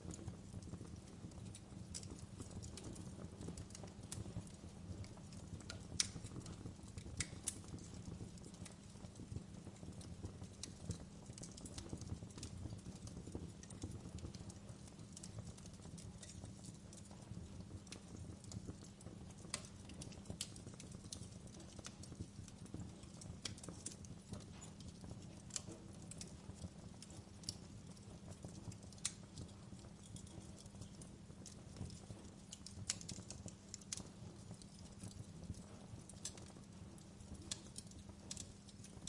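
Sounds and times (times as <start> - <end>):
low fire rumble: 0.0 - 39.0
wood fire crackling: 0.0 - 39.0.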